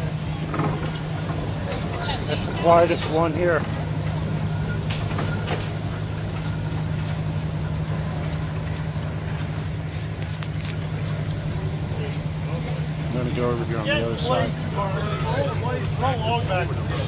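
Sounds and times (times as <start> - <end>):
engines and sawmill machinery drone: 0.0 - 17.0.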